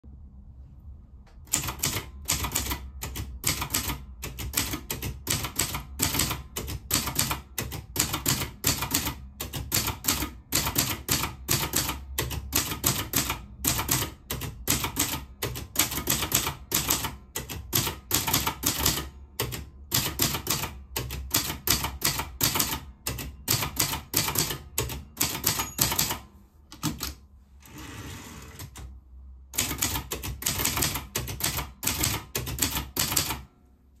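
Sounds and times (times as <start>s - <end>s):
manual typewriter keystrokes: 1.5s - 27.2s, 28.4s - 33.5s.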